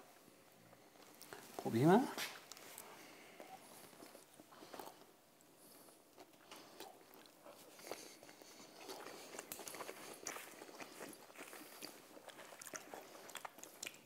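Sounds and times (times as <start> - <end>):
faint chewing: 0.7 - 14.0.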